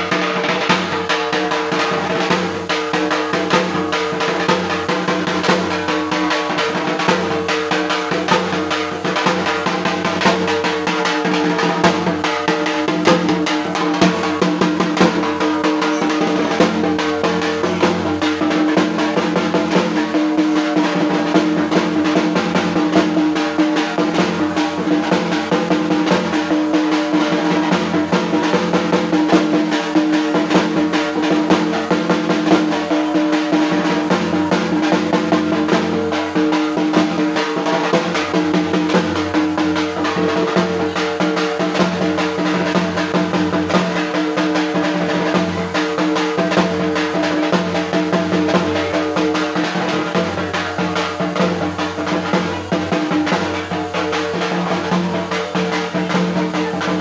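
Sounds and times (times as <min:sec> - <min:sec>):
drum rolls: 0:00.0 - 0:57.0.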